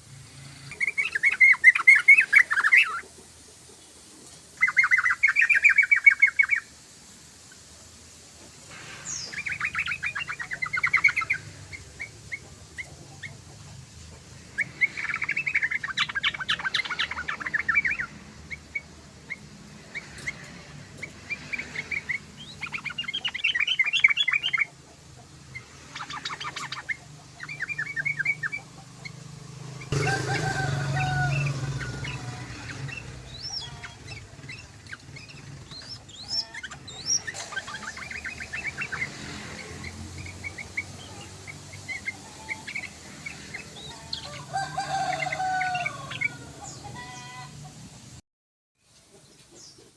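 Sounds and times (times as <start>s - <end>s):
low noisy sound: 0.0s - 48.2s
bird chattering song: 0.6s - 4.0s, 4.6s - 6.8s, 8.7s - 47.4s.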